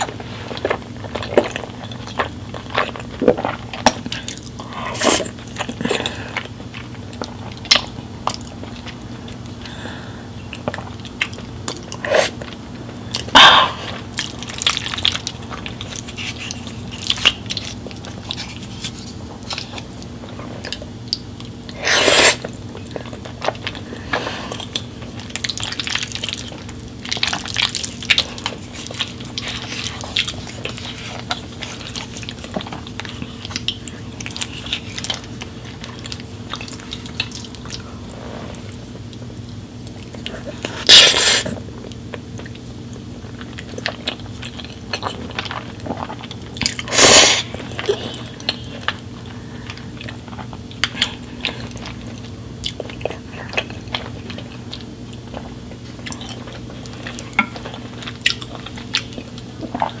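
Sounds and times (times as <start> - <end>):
person chewing crunchy food: 0.0 - 60.0
steady low hum: 0.0 - 60.0.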